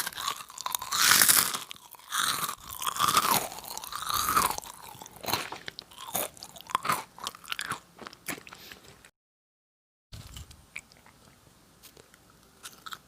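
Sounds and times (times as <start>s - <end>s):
chewing crunchy snack: 0.0s - 9.1s, 10.2s - 13.0s.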